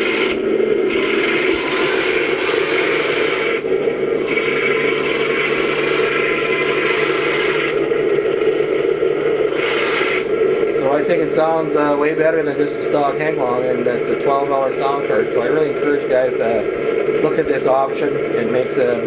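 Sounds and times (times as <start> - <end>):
rough hissing engine layer: 0.0 - 19.0
toy tank engine drone from speaker: 0.0 - 19.0.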